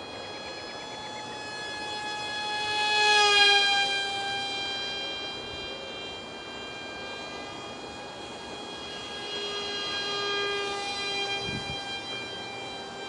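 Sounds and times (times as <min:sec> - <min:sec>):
model jet propeller whining: 0:00.0 - 0:13.0.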